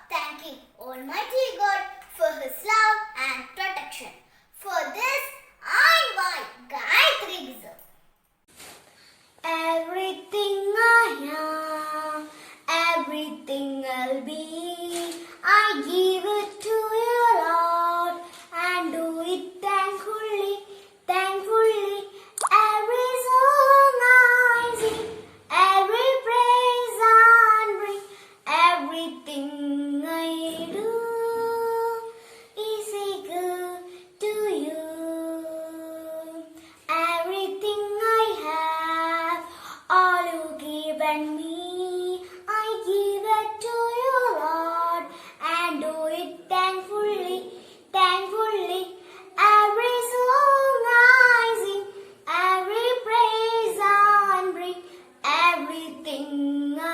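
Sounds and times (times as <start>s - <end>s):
child singing a hymn: 9.4s - 56.9s.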